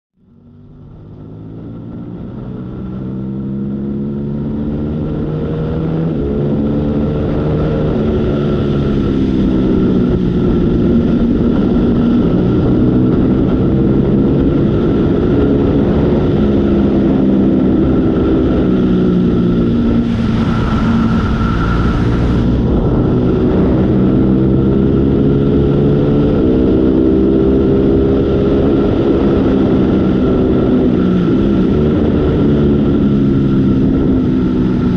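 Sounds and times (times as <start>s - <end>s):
wind and road noise: 0.2s - 34.9s
motorcycle engine revving: 0.3s - 34.9s.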